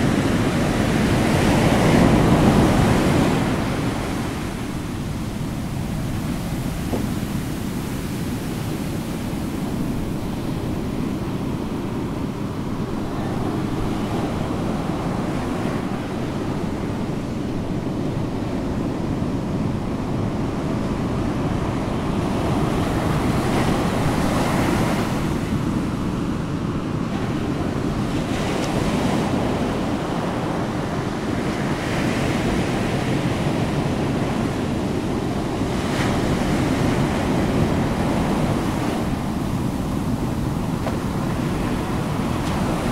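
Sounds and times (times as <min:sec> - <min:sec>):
ocean waves washing in: 0:00.0 - 0:42.9.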